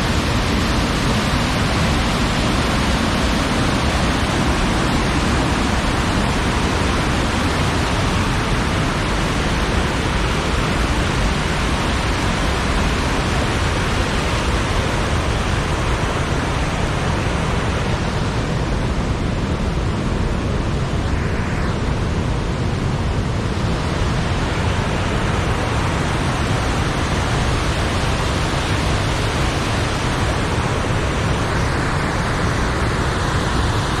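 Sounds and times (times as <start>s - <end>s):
stream water rushing: 0.0s - 34.0s.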